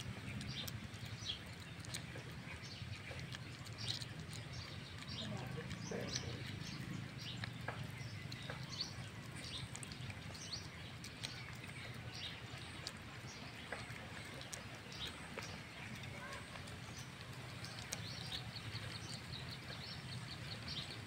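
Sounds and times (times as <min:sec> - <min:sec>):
puppy chewing and licking: 0:00.0 - 0:21.0
small birds chirping: 0:00.0 - 0:21.0.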